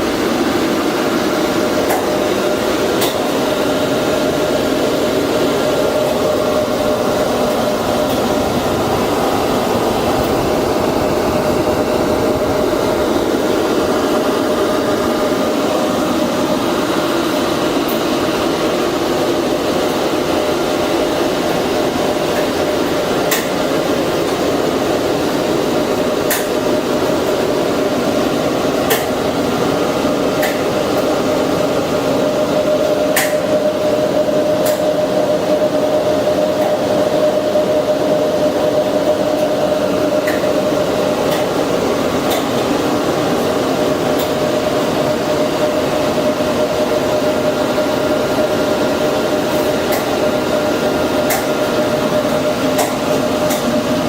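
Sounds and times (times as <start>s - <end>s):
machine hum with whine: 0.0s - 54.0s.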